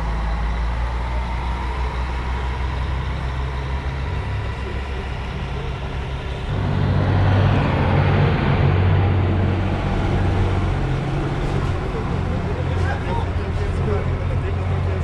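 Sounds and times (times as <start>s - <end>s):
bus engine rumble: 0.0s - 15.0s
diesel bus engine driving away: 0.0s - 15.0s.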